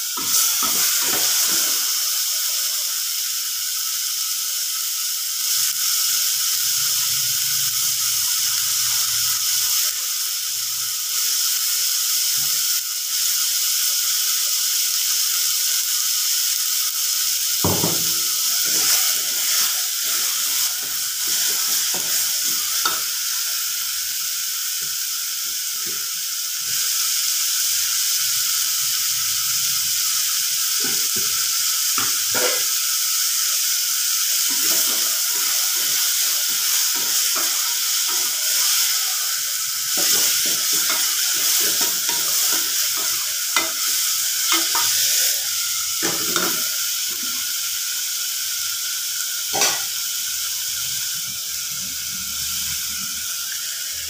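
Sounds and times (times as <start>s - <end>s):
onion and tomato sizzling: 0.0s - 54.0s.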